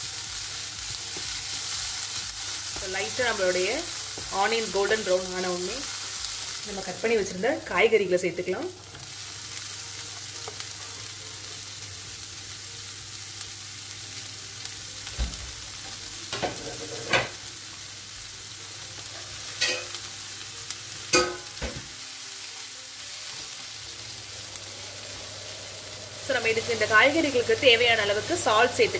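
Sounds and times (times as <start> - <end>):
vegetables sizzling in oil: 0.0 - 28.9.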